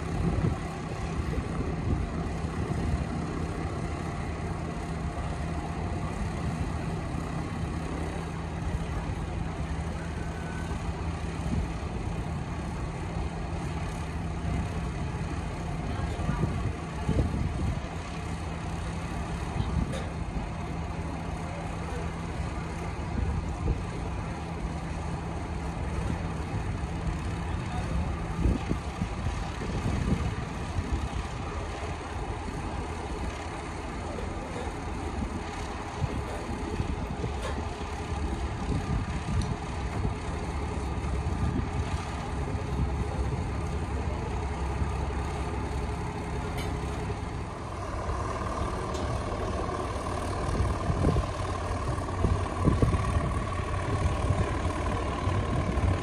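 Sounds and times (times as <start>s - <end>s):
light aircraft engine idling: 0.0s - 56.0s.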